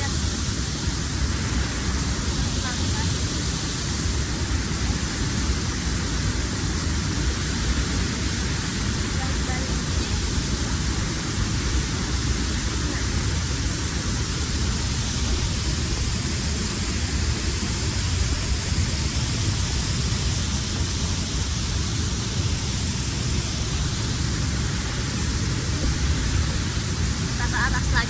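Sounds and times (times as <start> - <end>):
waterfall and rushing water: 0.0 - 28.0.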